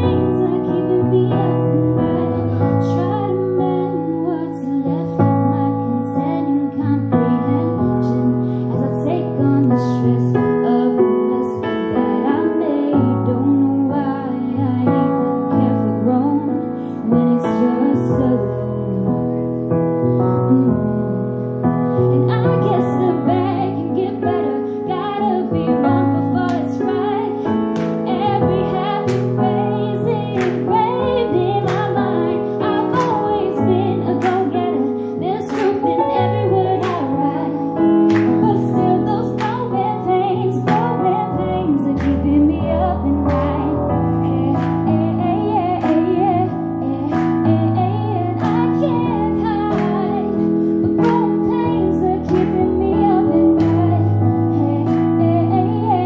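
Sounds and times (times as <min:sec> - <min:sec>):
piano accompaniment: 0:00.0 - 0:56.0
woman singing slow song: 0:00.0 - 0:56.0.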